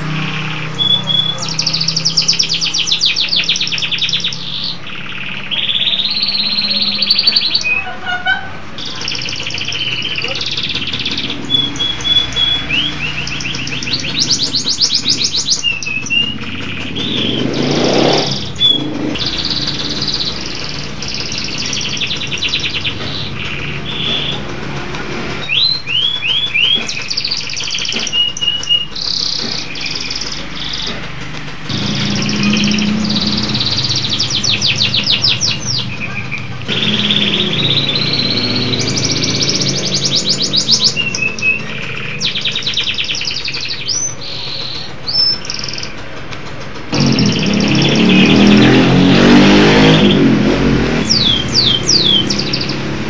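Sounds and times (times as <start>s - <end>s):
canary singing trills: 0.0s - 46.2s, 46.9s - 53.0s.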